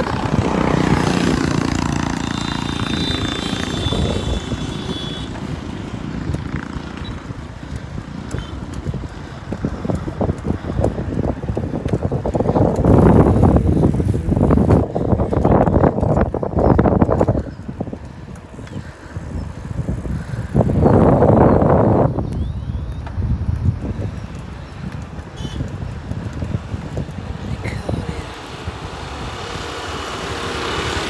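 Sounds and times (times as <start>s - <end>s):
road noise: 0.0s - 31.0s
wind buffeting microphone: 0.0s - 31.0s.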